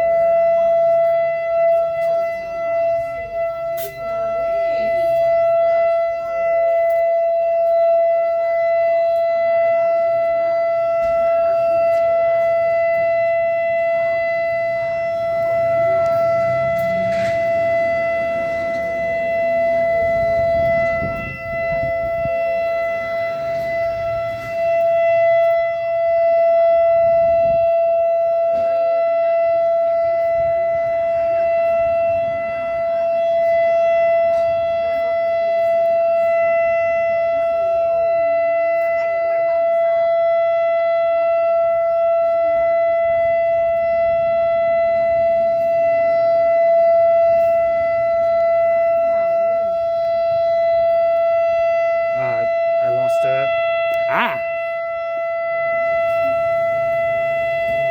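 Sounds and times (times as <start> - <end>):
outdoor warning siren steady tone: 0.0 - 57.9.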